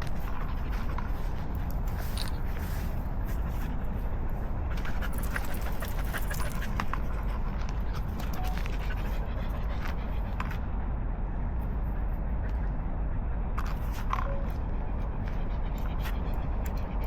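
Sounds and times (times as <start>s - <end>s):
dog panting: 0.0s - 10.8s, 11.6s - 17.0s
steady low rumble: 0.0s - 17.0s.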